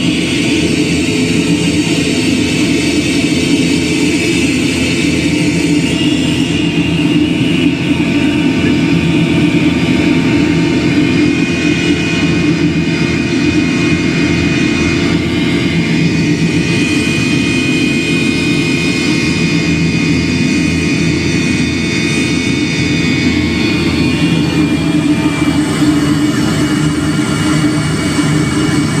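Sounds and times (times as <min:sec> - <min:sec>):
faint high whine: 0:00.0 - 0:29.0
jet engines droning: 0:00.0 - 0:29.0.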